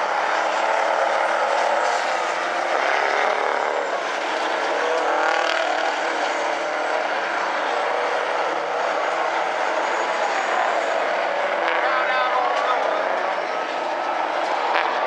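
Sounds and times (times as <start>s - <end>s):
truck engines racing: 0.0s - 15.0s.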